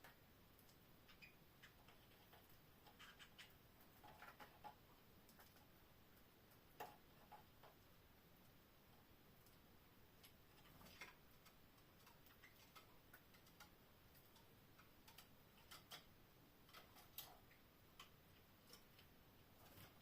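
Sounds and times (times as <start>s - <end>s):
canaries clicking and tapping: 0.0s - 20.0s
quiet hiss: 0.0s - 20.0s.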